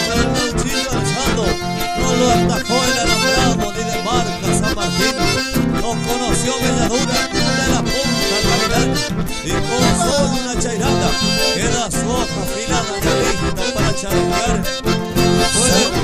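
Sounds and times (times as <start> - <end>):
acoustic guitar: 0.0 - 16.0
button accordions playing melody: 0.0 - 16.0
steady beat: 0.0 - 16.0.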